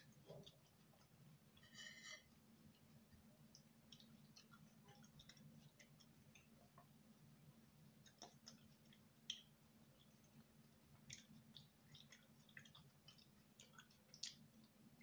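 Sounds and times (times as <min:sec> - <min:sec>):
faint wet chewing: 0:00.0 - 0:15.0
low steady hum: 0:00.0 - 0:15.0.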